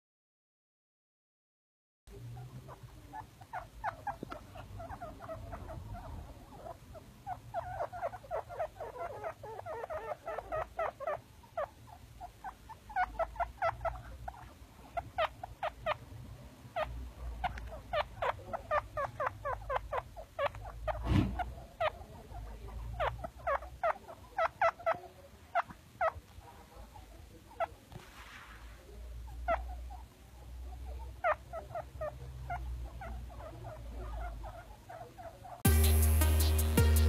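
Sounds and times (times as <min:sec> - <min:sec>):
chinchillas squeaking: 0:02.1 - 0:28.0, 0:28.8 - 0:35.9.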